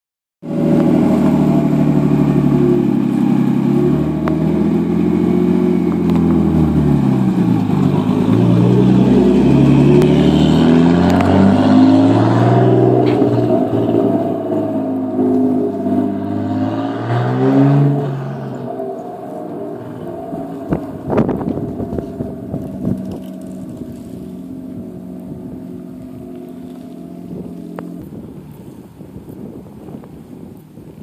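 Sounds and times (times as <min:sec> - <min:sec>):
car engine revving: 0:00.4 - 0:29.6.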